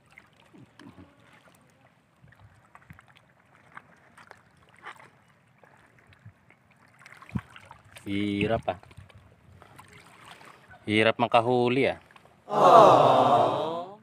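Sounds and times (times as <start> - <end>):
water lapping at shore: 0.0 - 13.6.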